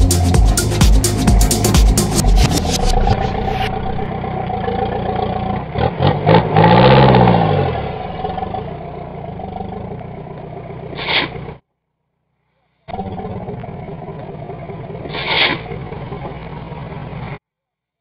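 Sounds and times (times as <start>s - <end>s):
engine revving under load: 0.0s - 11.6s, 12.9s - 17.4s.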